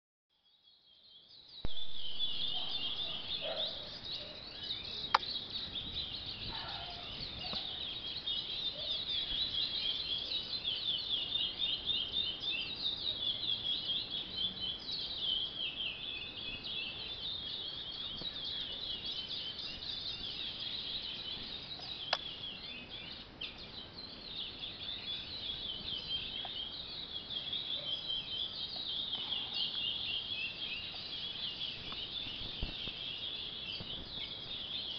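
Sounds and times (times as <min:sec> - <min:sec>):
finches chirping: 0:01.4 - 0:34.9.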